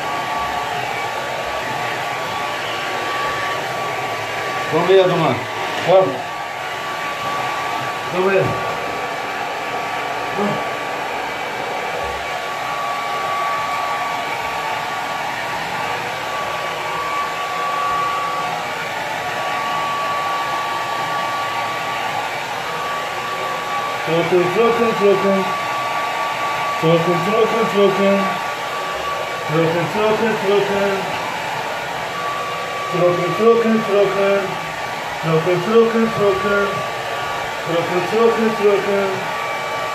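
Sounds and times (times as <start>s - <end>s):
hair dryer blowing with whine: 0.0s - 39.9s.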